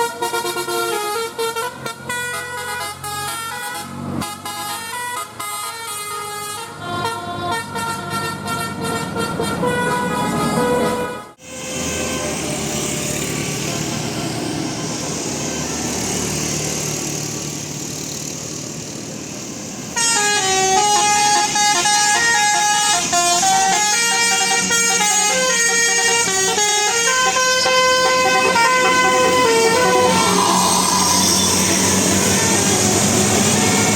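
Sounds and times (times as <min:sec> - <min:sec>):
bus multi-tone air horn tune: 0:00.0 - 0:14.0, 0:20.0 - 0:33.9
road vehicle noise: 0:00.0 - 0:33.9.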